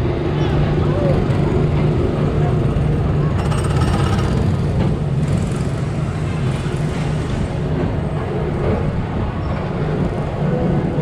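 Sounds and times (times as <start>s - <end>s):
ride vehicle rumbling on track: 0.0s - 11.0s.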